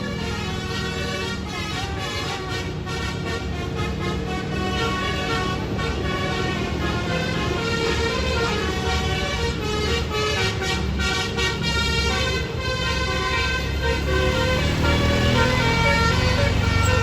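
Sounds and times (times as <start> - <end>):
bus engine running: 0.0 - 17.0
multi-tone musical horn melody: 0.0 - 17.0.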